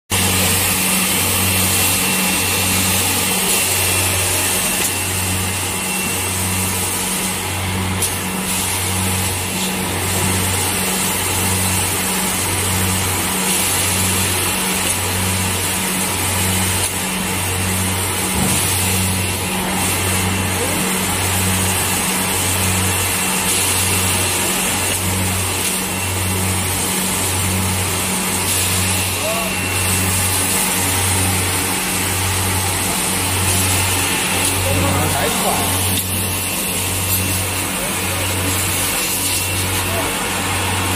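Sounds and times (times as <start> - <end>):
vacuum loader suction whir: 0.1 - 40.9.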